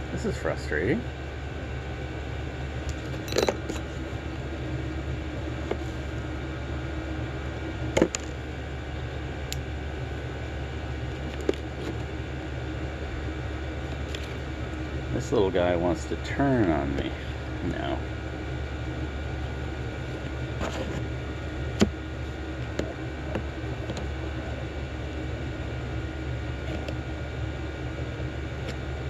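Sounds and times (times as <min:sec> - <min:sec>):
low background hum: 0:00.0 - 0:29.0.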